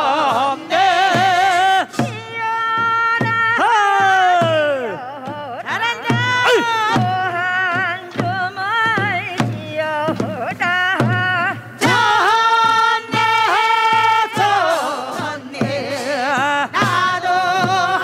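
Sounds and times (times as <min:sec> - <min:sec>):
barrel drum beats: 0:00.0 - 0:18.0
person singing folk song: 0:00.0 - 0:18.0.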